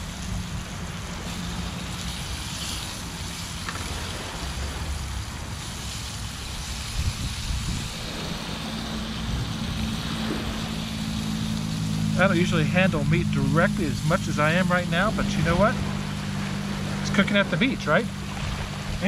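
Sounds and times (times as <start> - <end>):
fish frying in butter: 0.0 - 19.0
gas stove hissing: 0.0 - 19.0
small waves washing on shore: 0.0 - 19.0
wind rumbling on microphone: 0.0 - 19.0.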